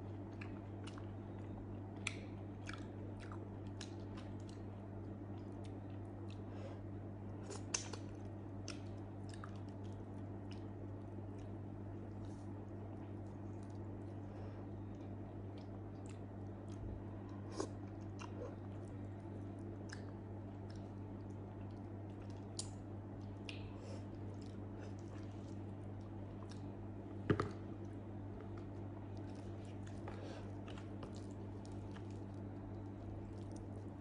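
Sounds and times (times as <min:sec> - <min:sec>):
low electrical hum: 0:00.0 - 0:34.0
person chewing food: 0:00.0 - 0:34.0.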